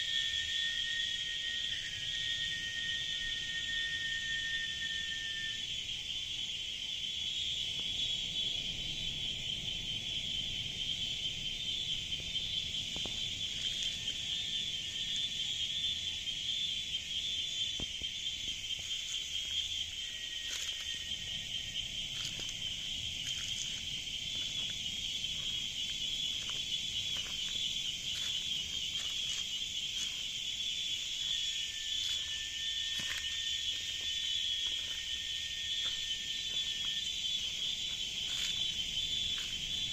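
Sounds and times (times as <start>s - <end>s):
cicadas buzzing chorus: 0.0s - 39.9s
thin steady tone: 6.9s - 39.9s.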